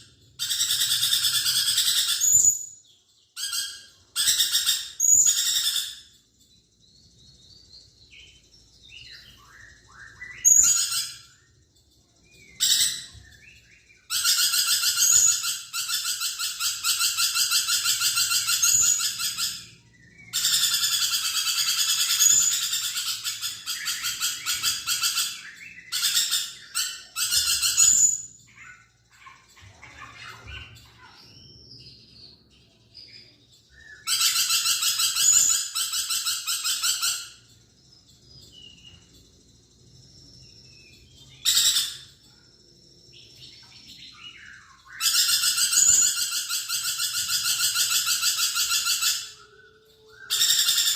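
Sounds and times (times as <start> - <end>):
lorikeet screeching chatter: 0.0 - 6.4, 7.4 - 50.9
soft bird chirps: 0.0 - 50.9.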